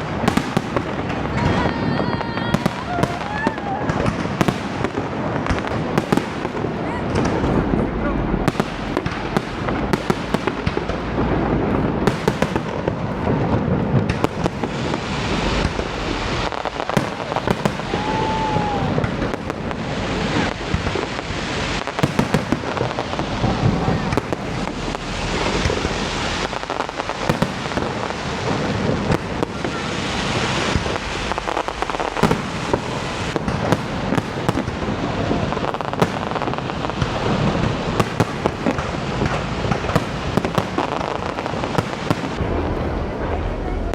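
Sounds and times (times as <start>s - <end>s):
fireworks booming and crackling: 0.0s - 43.9s.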